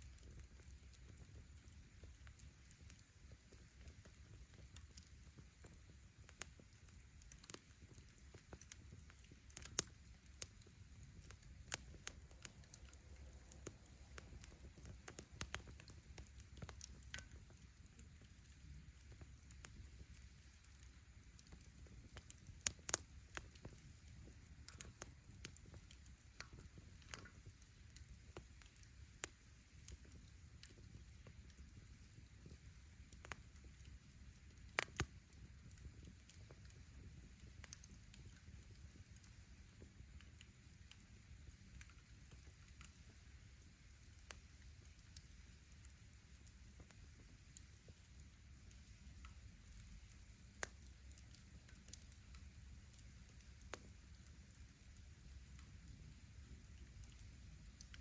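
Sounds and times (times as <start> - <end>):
firewood crackling and popping: 0.0 - 58.0
low rumble of flame: 0.0 - 58.0.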